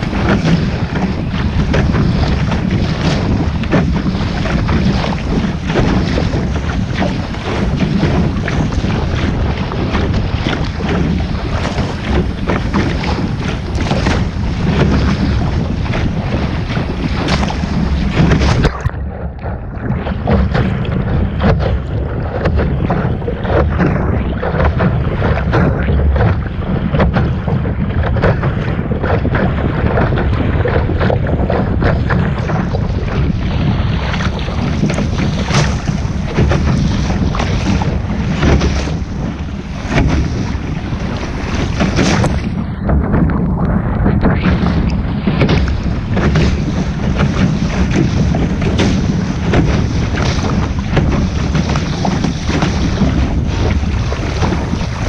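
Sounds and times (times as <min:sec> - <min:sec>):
water rushing past: 0:00.0 - 0:55.0
wind buffeting microphone: 0:00.0 - 0:55.0.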